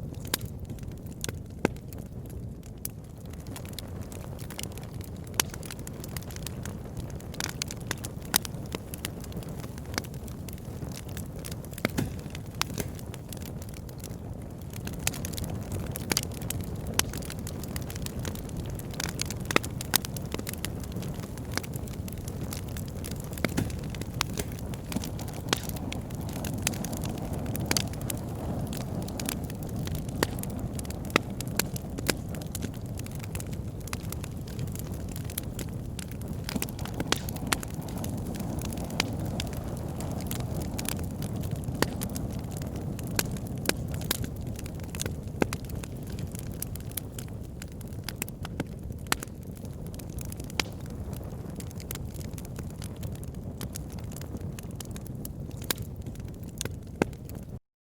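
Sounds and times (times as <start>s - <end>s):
burning wood popping and crackling: 0.0s - 57.6s
campfire flames rumbling: 0.0s - 57.6s.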